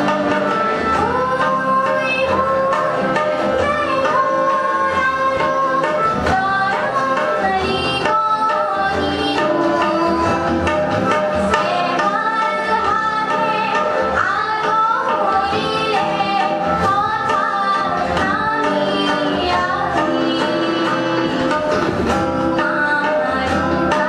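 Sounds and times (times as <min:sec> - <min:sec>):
harmonium chords: 0:00.0 - 0:24.0
tabla rhythm: 0:00.0 - 0:24.0
woman singing: 0:00.0 - 0:24.0.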